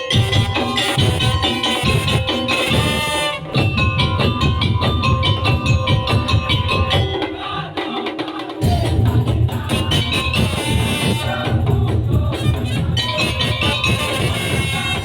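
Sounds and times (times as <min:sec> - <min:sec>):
heavy pounding drums: 0:00.0 - 0:15.0
wooden percussion: 0:00.0 - 0:15.0.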